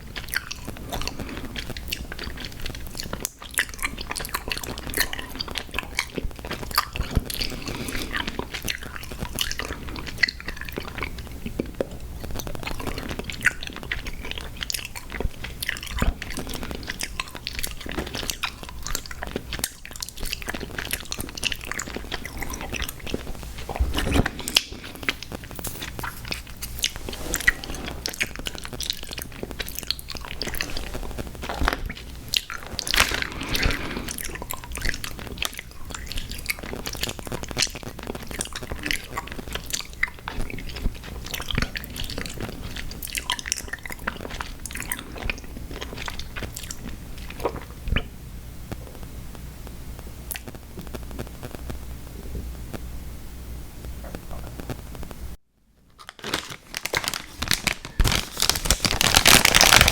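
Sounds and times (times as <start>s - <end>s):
chewing gummy cereal: 0.0s - 48.1s, 55.9s - 59.9s.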